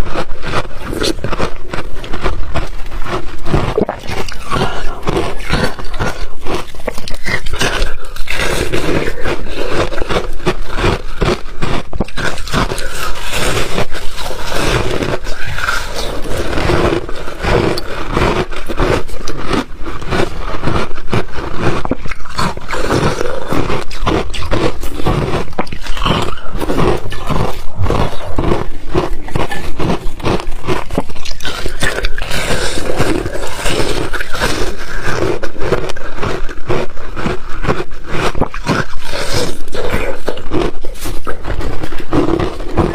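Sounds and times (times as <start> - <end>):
person chewing ice: 0.0 - 42.9.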